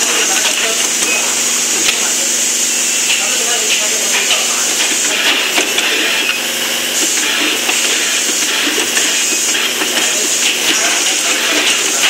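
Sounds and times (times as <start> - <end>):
machine hissing: 0.0 - 12.0
machine running: 0.0 - 12.0.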